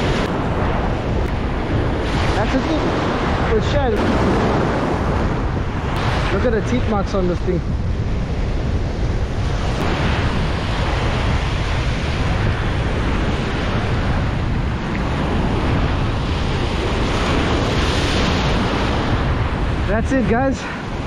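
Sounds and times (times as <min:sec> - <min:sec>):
ocean surf breaking: 0:00.0 - 0:21.0
wind noise on microphone: 0:00.0 - 0:21.0.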